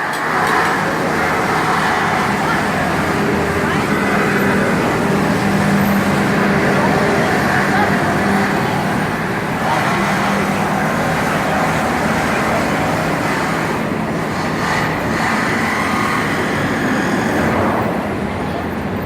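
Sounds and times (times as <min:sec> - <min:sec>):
city street traffic: 0:00.0 - 0:19.0
continuous mechanical noise: 0:00.0 - 0:19.0.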